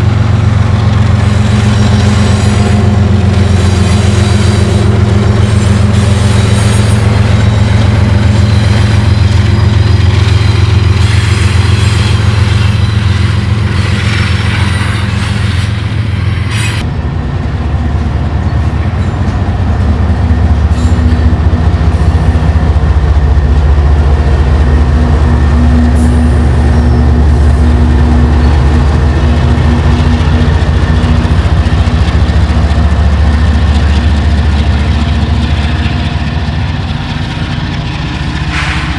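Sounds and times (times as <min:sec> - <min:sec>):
diesel locomotive engine: 0:00.0 - 0:38.9.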